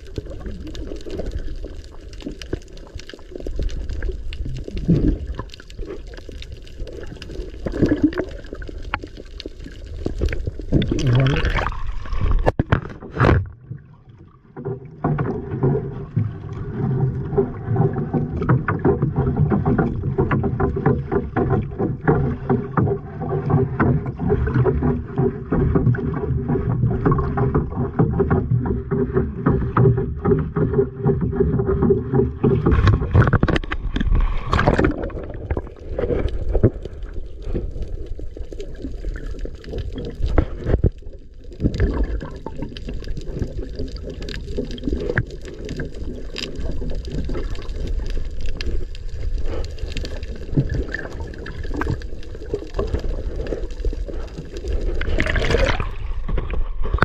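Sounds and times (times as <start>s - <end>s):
water noise: 0.0s - 57.0s.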